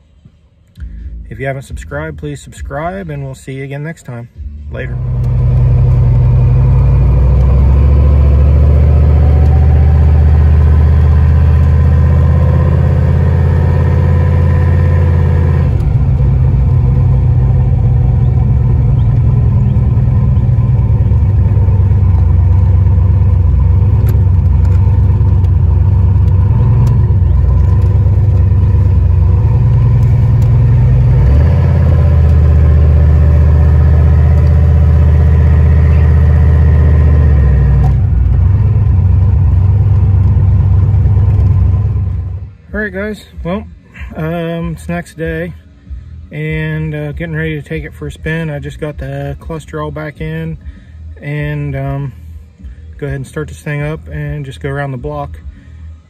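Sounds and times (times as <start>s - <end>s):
car engine rumbling: 0.0s - 56.0s.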